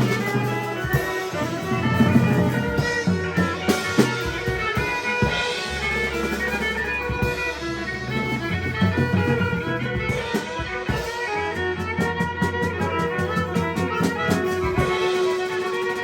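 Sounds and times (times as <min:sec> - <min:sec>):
drums hitting: 0:00.0 - 0:16.0
held bass notes: 0:00.0 - 0:16.0
rock band playing live: 0:00.0 - 0:16.0
sustained guitar chords: 0:00.0 - 0:16.0.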